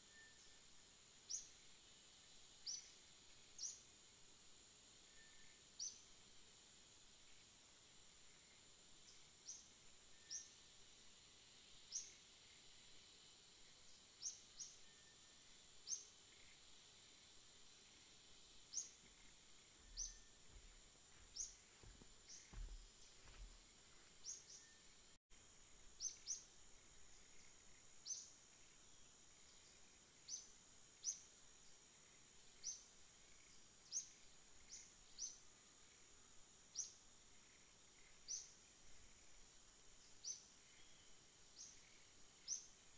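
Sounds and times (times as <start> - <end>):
high insect drone: 0.0 - 42.9.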